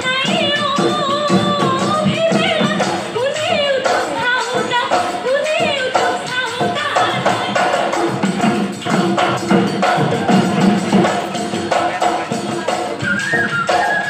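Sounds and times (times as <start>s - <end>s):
barrel drums beating fast rhythm: 0.0s - 14.0s
clattering hand percussion: 0.0s - 14.0s.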